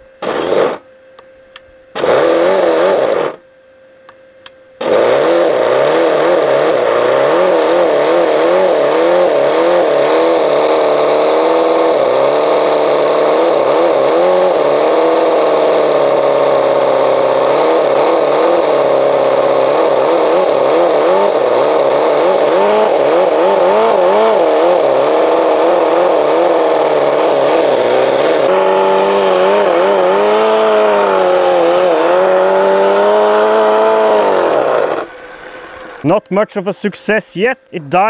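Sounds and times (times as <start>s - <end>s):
nitro engine running unevenly: 0.0s - 0.8s, 2.0s - 3.4s, 4.8s - 36.5s.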